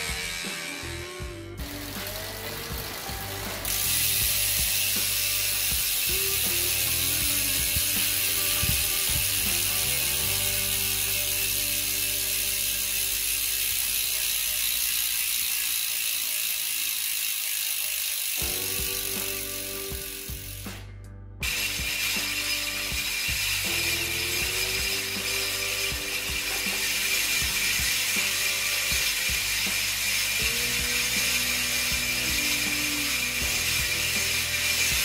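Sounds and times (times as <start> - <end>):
bicycle freehub ticking: 1.6 - 20.7, 21.4 - 35.0.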